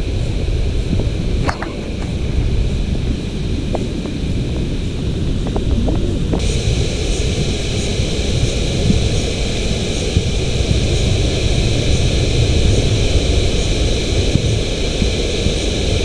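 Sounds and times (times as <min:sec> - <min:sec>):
steady hiss: 0:00.0 - 0:16.0
wind buffeting microphone: 0:00.0 - 0:16.0.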